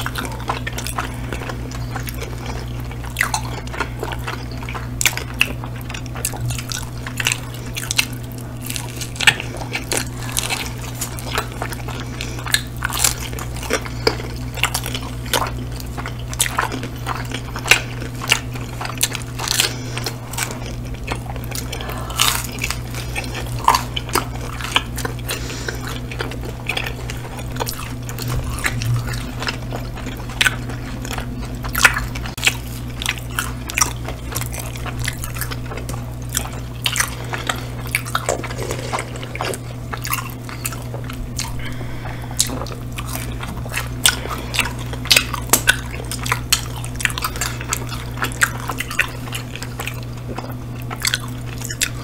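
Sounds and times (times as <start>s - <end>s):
people chewing and biting food: 0.0s - 52.0s
steady low hum: 0.0s - 52.0s.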